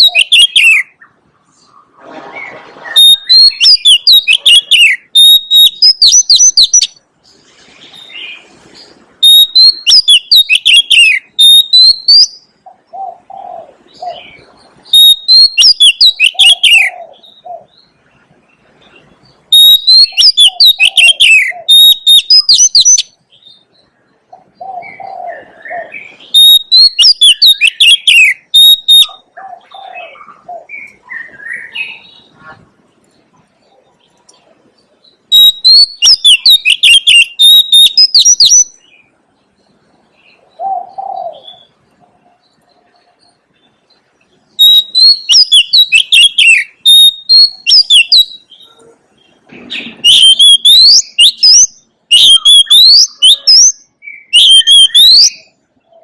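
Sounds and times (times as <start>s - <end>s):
bird singing whistles and trills: 0.0s - 1.2s, 2.4s - 7.0s, 7.9s - 18.0s, 18.8s - 32.5s, 35.1s - 41.8s, 42.4s - 48.8s, 49.7s - 56.0s
softer lower bird calls: 0.0s - 56.0s.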